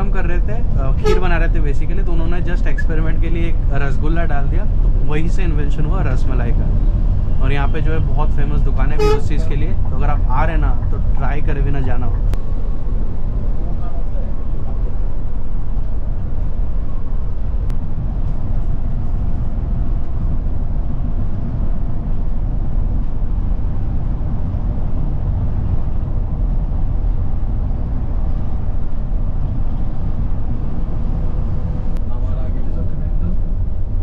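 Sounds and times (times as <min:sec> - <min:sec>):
coach engine and tyres rumble: 0:00.0 - 0:34.0.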